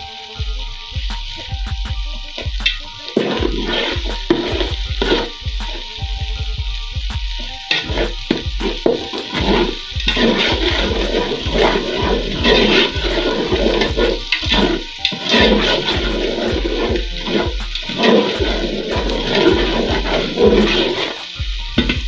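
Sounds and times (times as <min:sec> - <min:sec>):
background music with steady beat: 0:00.0 - 0:22.0
food sizzling in oil: 0:00.0 - 0:22.0.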